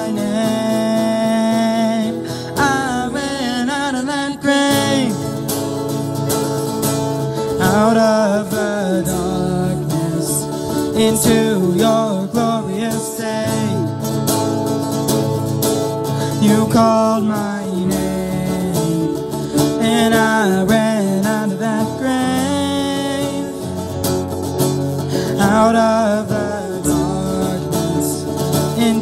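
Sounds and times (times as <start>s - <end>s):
strummed acoustic guitars: 0.0s - 29.0s.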